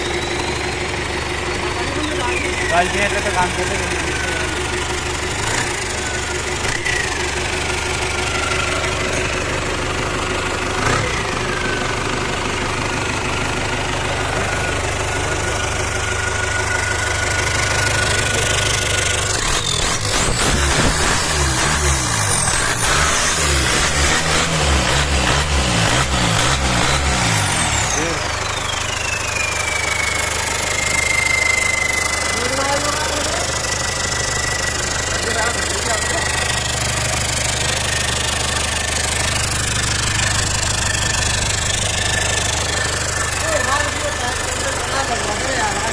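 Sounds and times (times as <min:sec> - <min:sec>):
car engine revving: 0:01.4 - 0:12.0, 0:12.8 - 0:45.9.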